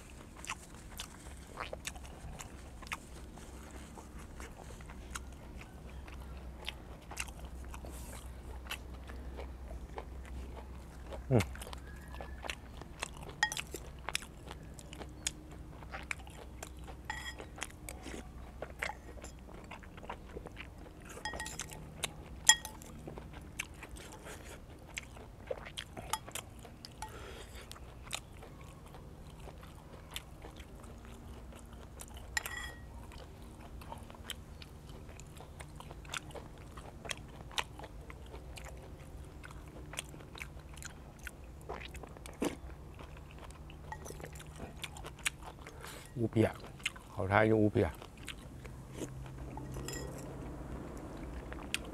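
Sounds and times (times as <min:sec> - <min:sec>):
man chewing and crunching: 0:00.0 - 0:51.9.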